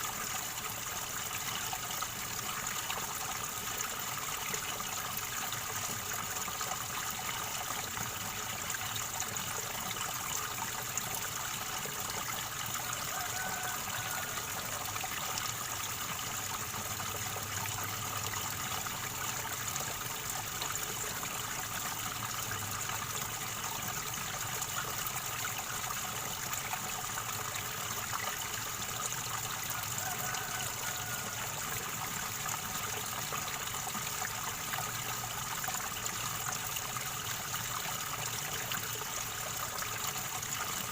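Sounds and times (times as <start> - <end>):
river water gurgling: 0.0 - 40.9.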